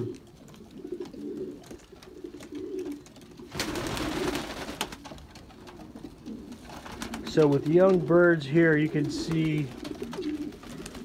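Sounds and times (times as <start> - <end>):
pigeons cooing: 0.0 - 11.0
pigeon flapping wings: 0.5 - 11.0.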